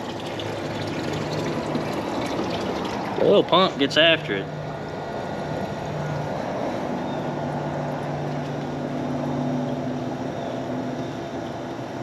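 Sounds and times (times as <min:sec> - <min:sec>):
water pump humming: 0:00.0 - 0:12.0.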